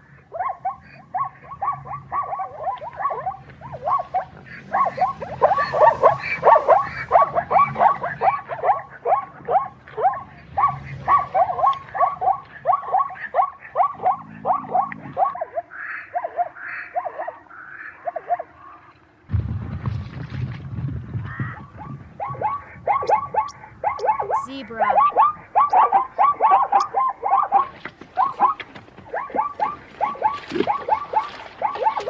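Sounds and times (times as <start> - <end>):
zebra barking yelps: 0.3 - 18.5, 22.2 - 32.0.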